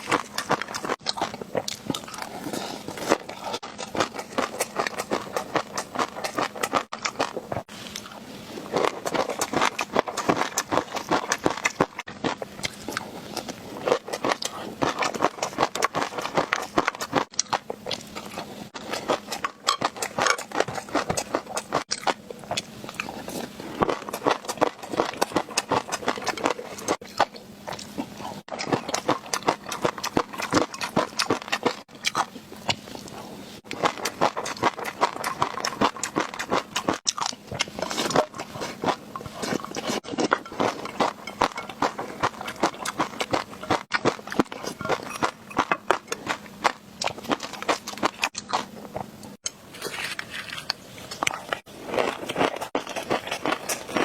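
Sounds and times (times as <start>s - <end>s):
wet chewing and biting: 0.0s - 54.0s.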